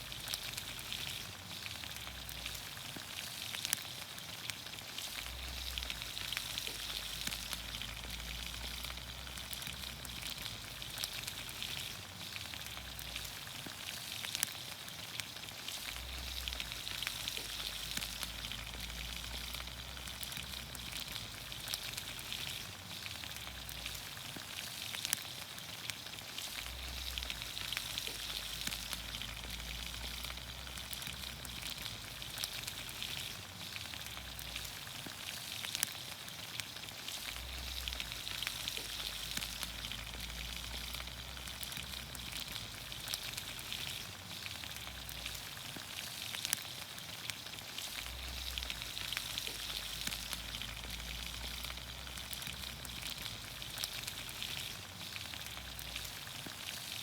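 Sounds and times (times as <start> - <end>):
small pops and crackles: 0.0 - 57.0
vegetables sizzling in oil: 0.0 - 57.0.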